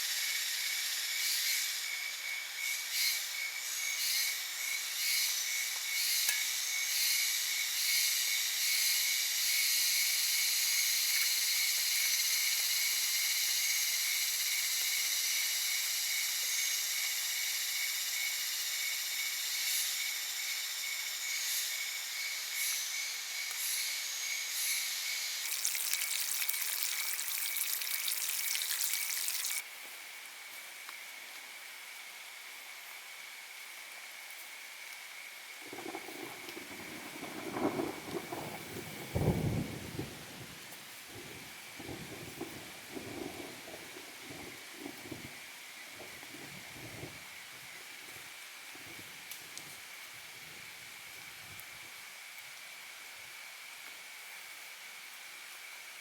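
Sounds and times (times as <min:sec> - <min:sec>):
high-pitched insect chorus: 0:00.0 - 0:29.6, 0:31.0 - 0:40.3, 0:41.1 - 0:48.6
rapidly pulsing insect call: 0:00.0 - 0:56.0.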